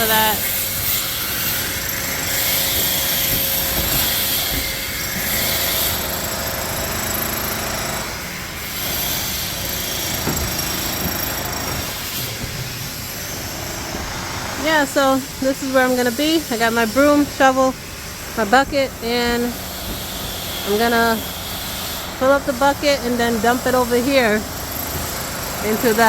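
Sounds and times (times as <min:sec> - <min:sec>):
machinery running: 0:00.0 - 0:26.0.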